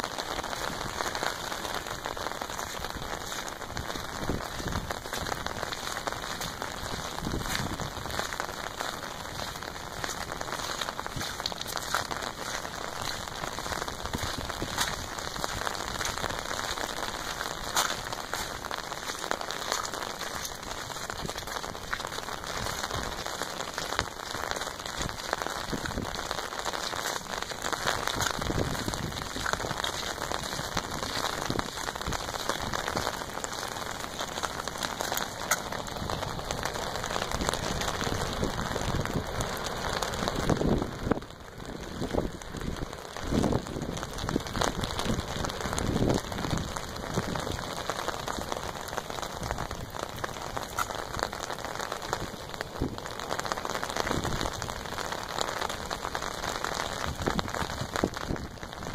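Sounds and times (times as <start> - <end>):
raindrops tapping sharply: 0.0 - 58.9
steady rain: 0.0 - 58.9.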